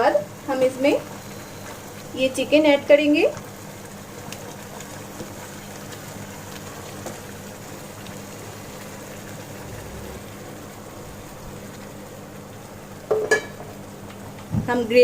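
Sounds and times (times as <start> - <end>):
gravy simmering and bubbling: 1.0 - 14.6.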